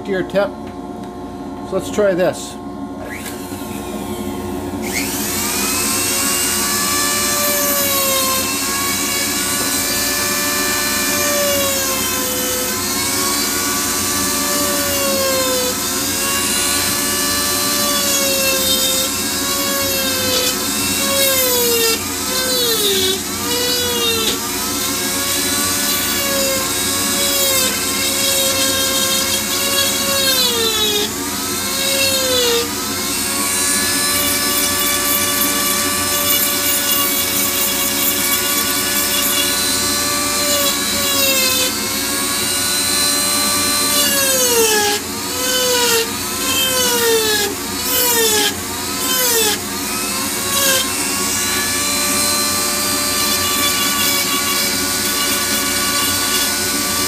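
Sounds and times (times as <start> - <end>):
rotary tool carving wood: 4.8 - 57.0.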